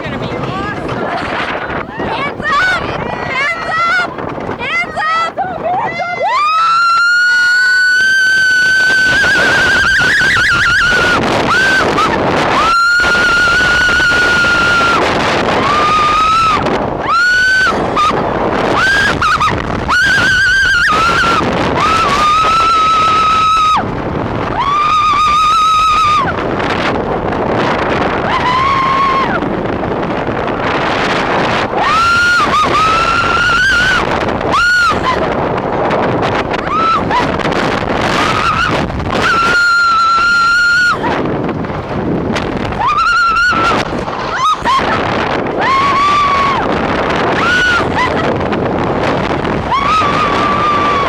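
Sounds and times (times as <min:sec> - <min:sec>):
roller coaster train rumbling: 0:00.0 - 0:51.0
wind noise on microphone: 0:00.0 - 0:51.0
riders screaming: 0:00.1 - 0:41.6, 0:42.5 - 0:51.0.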